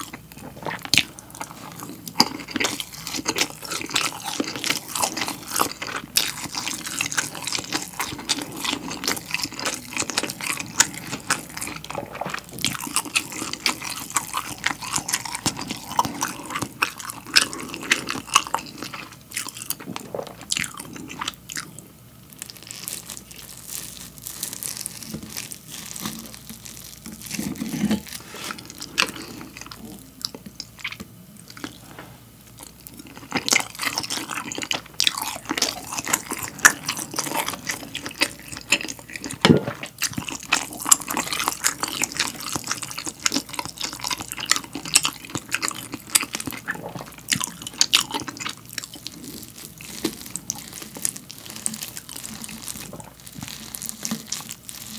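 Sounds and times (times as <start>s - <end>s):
wet chewing sounds: 0.0s - 54.9s.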